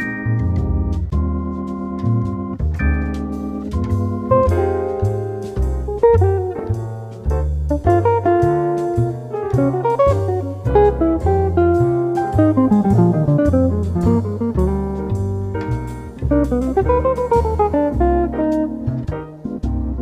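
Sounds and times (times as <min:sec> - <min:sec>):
relaxed jazzy instrumental music: 0:00.0 - 0:20.0.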